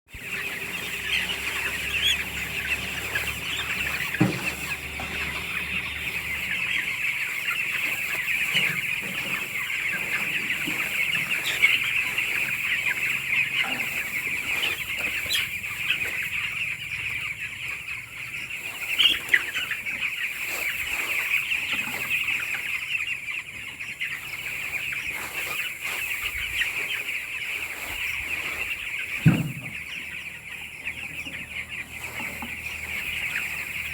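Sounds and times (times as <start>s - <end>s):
chickens clucking: 0.1s - 33.9s.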